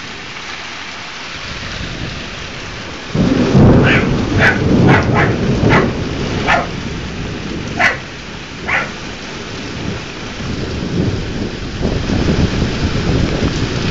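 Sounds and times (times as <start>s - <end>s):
steady rain: 0.0s - 13.9s
low thunder rumbling: 1.4s - 13.9s.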